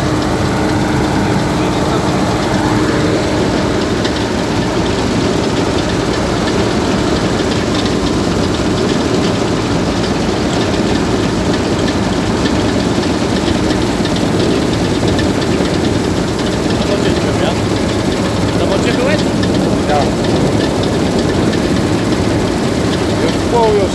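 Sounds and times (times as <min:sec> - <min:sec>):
diesel engine under load: 0:00.0 - 0:23.9.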